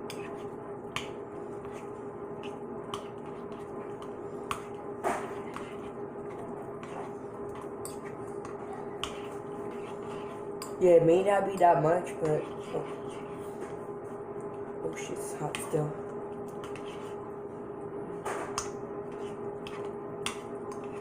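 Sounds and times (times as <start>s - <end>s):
spoon stirring soft food: 0.0s - 21.0s
steady background hum: 0.0s - 21.0s.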